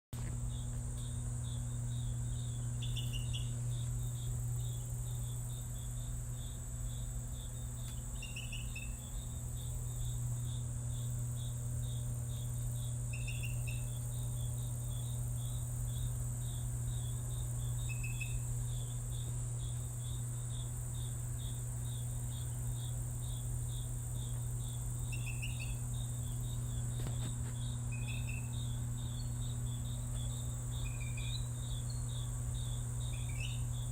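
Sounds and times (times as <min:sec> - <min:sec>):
crickets chirping: 0:00.2 - 0:33.9
high insect trill: 0:00.2 - 0:33.9
lower-pitched insect chirping: 0:00.2 - 0:33.9.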